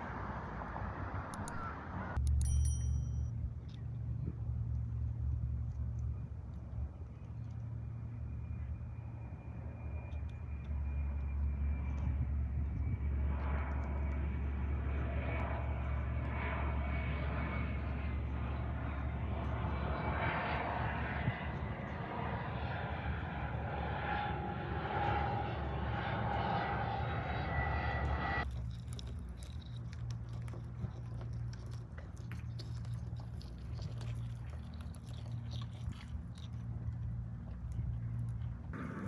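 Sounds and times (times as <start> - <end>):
rushing engine-like rumble: 0.0 - 39.0.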